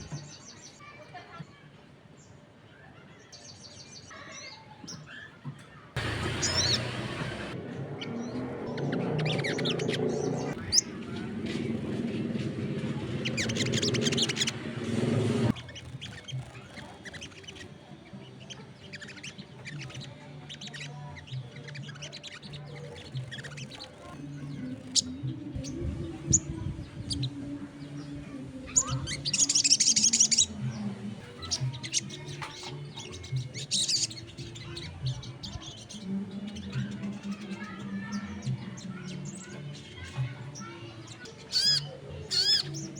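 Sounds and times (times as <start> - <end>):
songbird chirping and twittering: 0.0 - 42.9.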